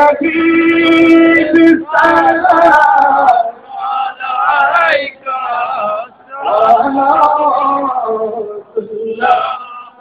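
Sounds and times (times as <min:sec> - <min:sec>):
men singing devotional song: 0:00.0 - 0:10.0.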